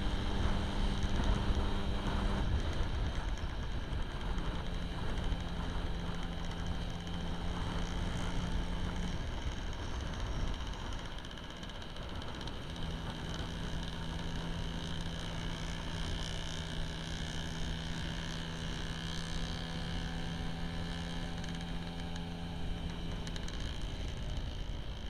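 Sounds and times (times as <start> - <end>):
scooter engine running: 0.0 - 25.0.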